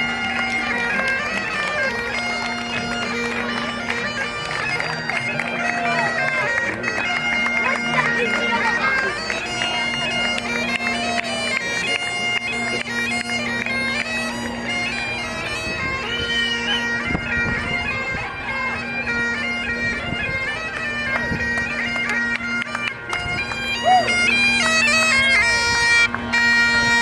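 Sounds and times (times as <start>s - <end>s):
bagpipes playing: 0.0s - 27.0s.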